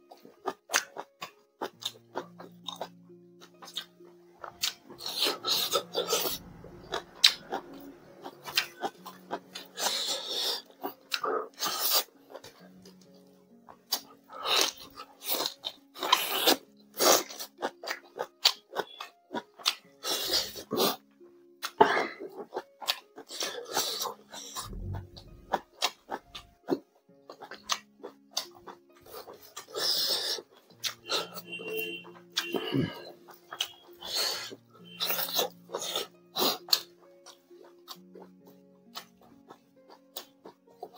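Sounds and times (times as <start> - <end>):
wet chewing and smacking: 0.0 - 40.9.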